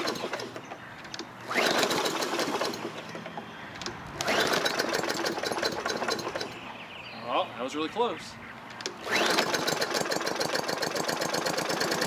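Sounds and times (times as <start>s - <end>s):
mower engine cranking: 0.0s - 6.6s, 8.7s - 12.0s.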